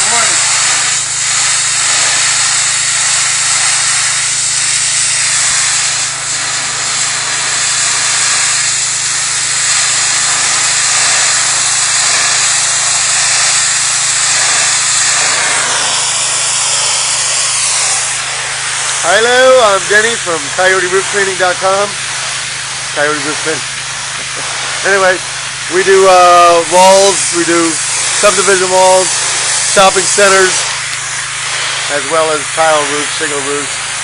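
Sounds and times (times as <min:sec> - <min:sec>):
pressure washer machine drone: 0:00.0 - 0:34.0
water jet hissing on wall: 0:00.0 - 0:34.0.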